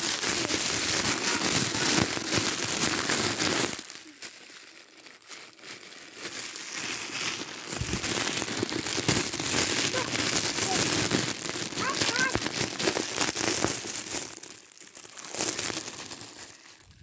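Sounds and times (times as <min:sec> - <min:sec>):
crinkling rustle: 0:00.0 - 0:17.0.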